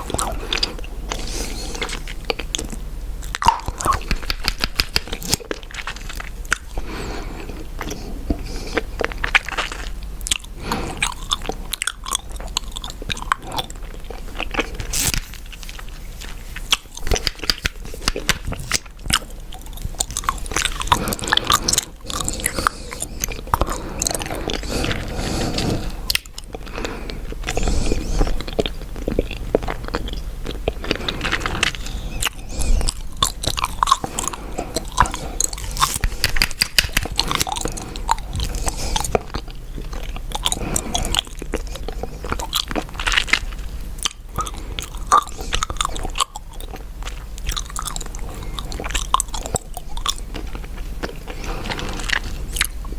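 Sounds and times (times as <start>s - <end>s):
chewing gum: 0.0s - 52.9s.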